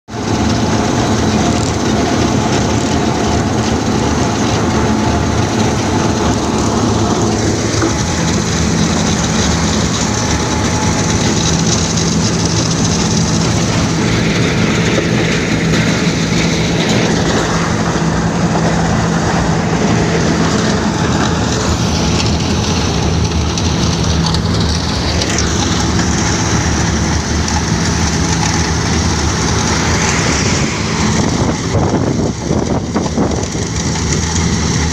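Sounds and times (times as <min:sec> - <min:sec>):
milling machine diesel rumble: 0:00.1 - 0:34.9.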